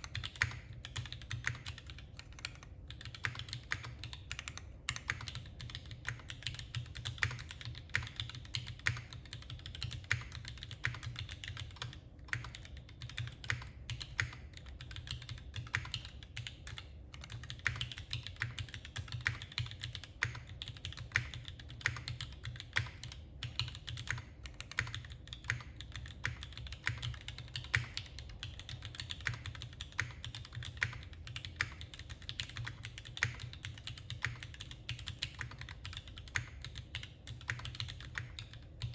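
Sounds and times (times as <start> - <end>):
keyboard typing clicks: 0.0 - 38.9
steady low hum: 0.0 - 38.9.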